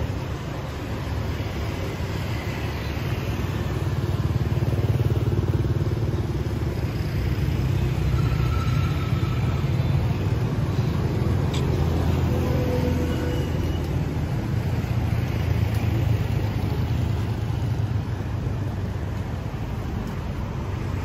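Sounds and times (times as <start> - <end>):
motorbikes and cars passing: 0.0 - 21.0.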